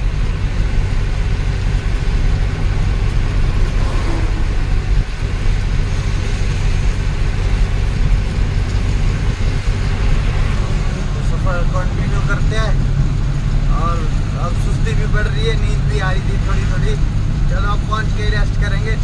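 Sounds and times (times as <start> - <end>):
road rumble: 0.0 - 19.0
truck engine drone: 0.0 - 19.0.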